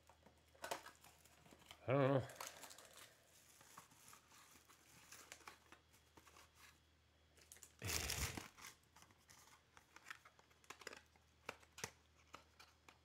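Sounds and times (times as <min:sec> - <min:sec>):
plastic wrapper rustle: 0:00.0 - 0:06.8, 0:07.4 - 0:13.0
plastic wrapper crinkling: 0:00.1 - 0:06.5, 0:07.4 - 0:13.0.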